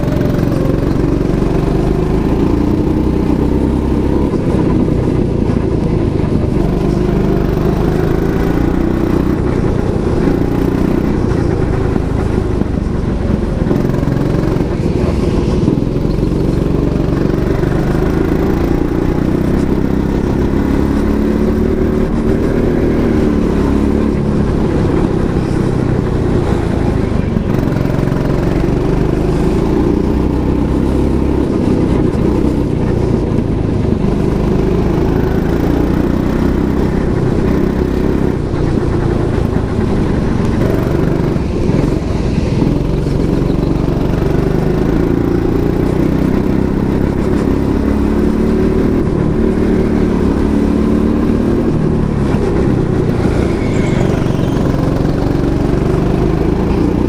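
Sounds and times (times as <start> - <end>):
go-kart motor revving: 0.0 - 57.0.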